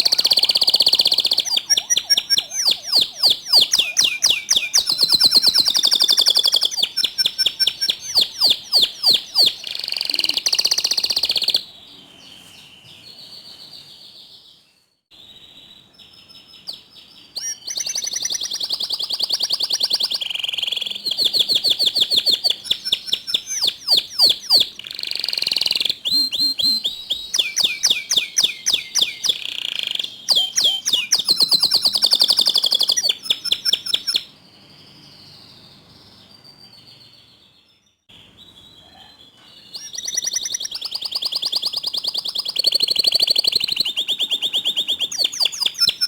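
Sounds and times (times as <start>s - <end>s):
canary singing: 0.0s - 46.0s.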